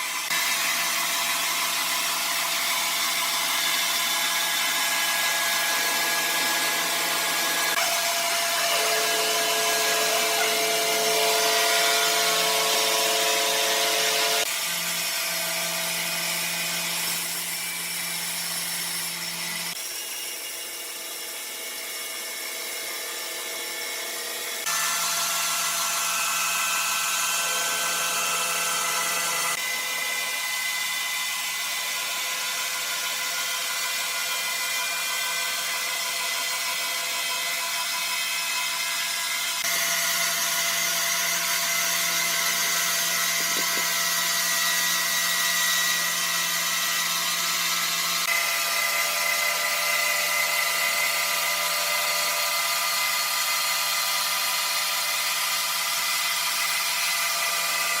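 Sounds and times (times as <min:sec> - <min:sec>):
sawmill machinery cutting wood: 0:00.0 - 0:58.0.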